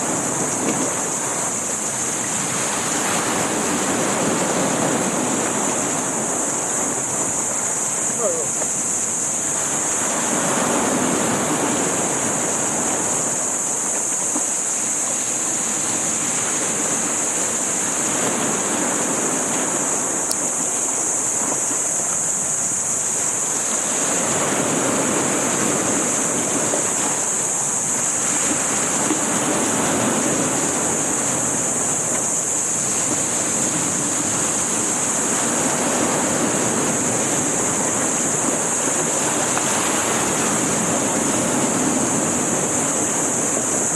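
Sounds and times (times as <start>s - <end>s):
sea waves: 0.0s - 43.9s
wind on microphone: 0.0s - 43.9s.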